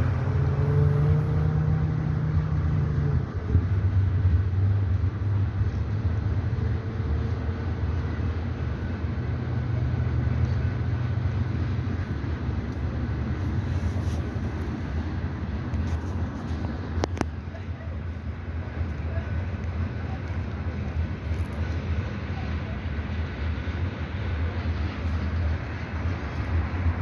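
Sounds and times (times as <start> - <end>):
train passing rumble: 0.0 - 27.0.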